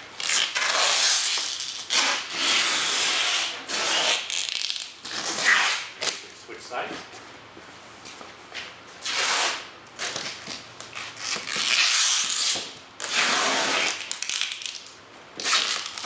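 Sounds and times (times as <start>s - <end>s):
packing tape ripping: 0.2s - 6.2s, 9.0s - 16.0s.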